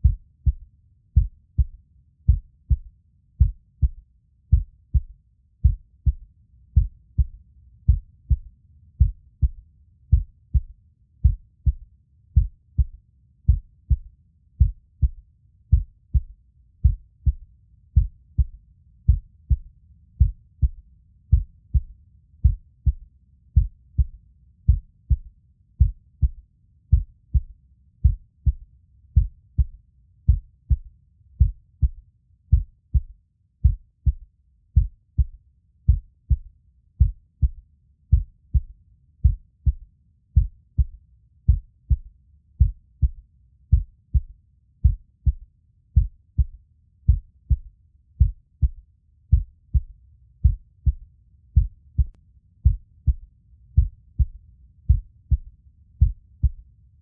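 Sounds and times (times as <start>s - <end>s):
heartbeat thumps: 0.0s - 17.4s, 18.0s - 23.0s, 23.6s - 56.6s.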